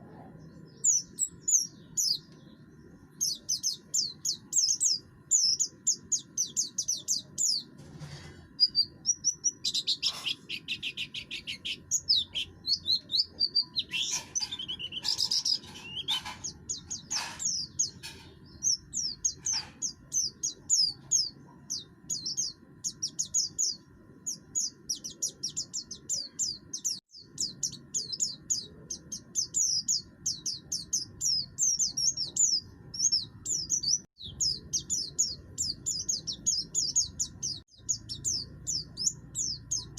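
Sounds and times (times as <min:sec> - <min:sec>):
bird singing harsh fast song: 0:00.0 - 0:07.8, 0:08.4 - 0:39.9.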